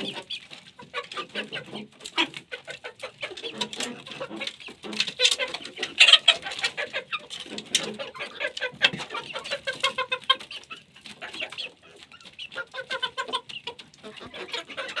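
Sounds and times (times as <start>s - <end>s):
beaks pecking: 0.0s - 15.0s
chickens clucking: 0.0s - 15.0s.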